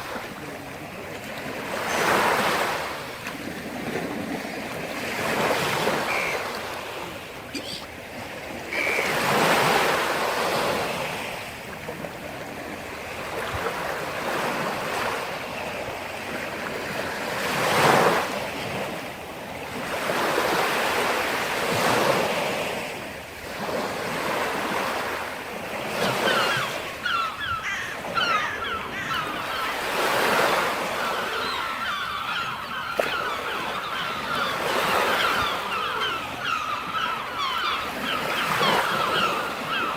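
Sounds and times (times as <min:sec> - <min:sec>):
waves breaking and washing in: 0:00.0 - 0:39.9.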